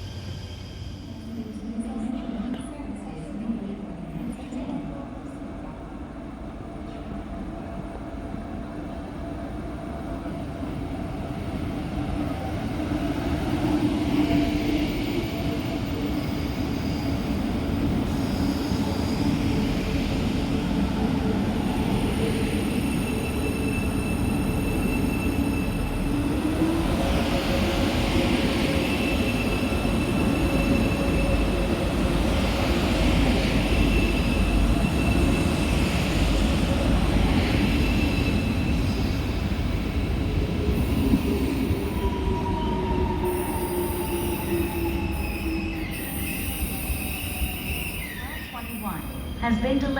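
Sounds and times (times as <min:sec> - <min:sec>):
train rumbling: 0:00.0 - 0:49.9.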